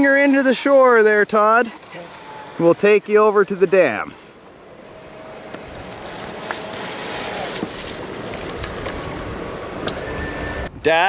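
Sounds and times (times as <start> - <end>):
rc jet boat rushing on water: 1.0 - 10.7.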